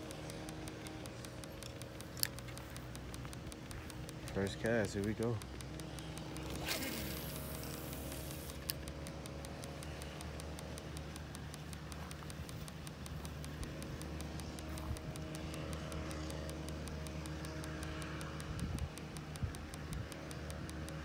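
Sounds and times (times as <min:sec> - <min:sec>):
low engine hum: 0:00.0 - 0:21.0
sharp click: 0:00.0 - 0:21.0.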